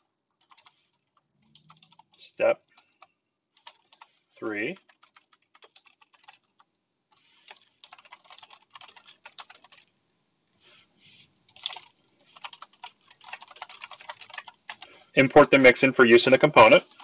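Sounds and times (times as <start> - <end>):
computer keyboard typing: 0.3 - 9.9, 11.5 - 17.0.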